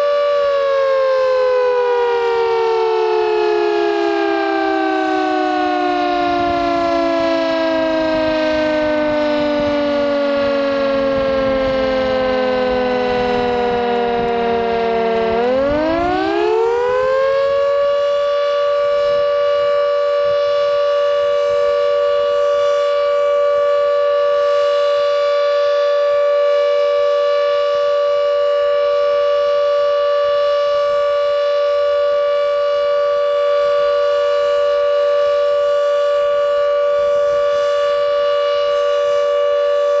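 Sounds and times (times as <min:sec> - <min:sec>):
electric siren wailing: 0:00.0 - 0:40.0.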